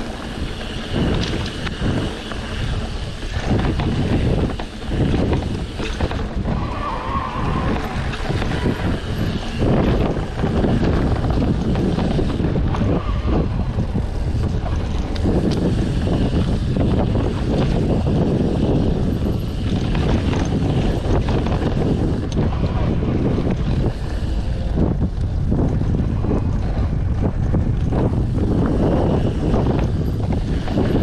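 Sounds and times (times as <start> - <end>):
bike knocks and rattles: 0.0 - 31.0
wind buffeting microphone: 0.0 - 31.0.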